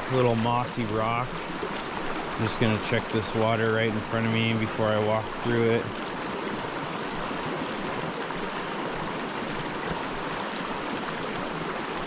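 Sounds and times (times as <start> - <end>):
creek flowing over rocks: 0.0 - 12.0.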